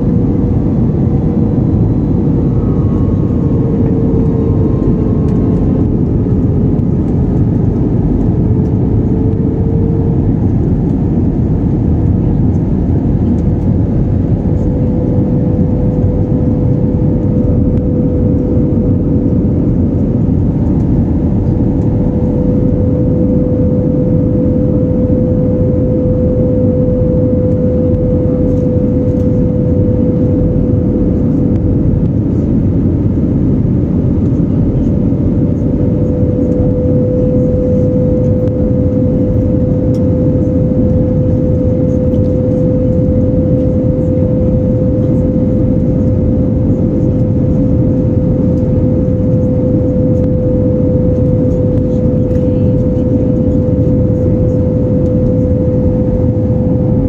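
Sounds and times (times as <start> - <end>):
constant humming tone: 0.0 - 57.0
jet cabin engine rush: 0.0 - 57.0.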